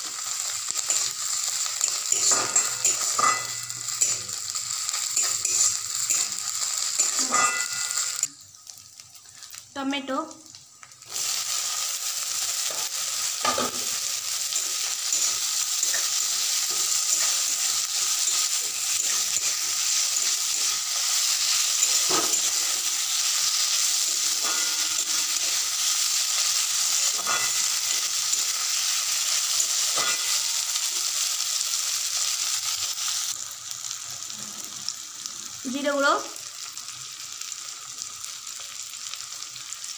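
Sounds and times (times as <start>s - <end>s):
tomatoes sizzling in hot oil: 0.0s - 39.9s.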